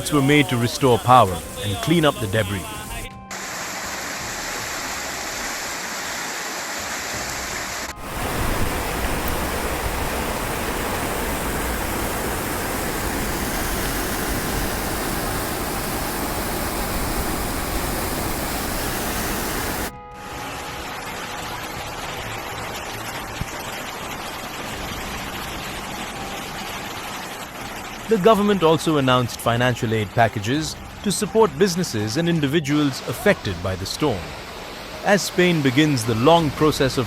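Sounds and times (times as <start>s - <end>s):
rushing water: 0.0s - 37.0s.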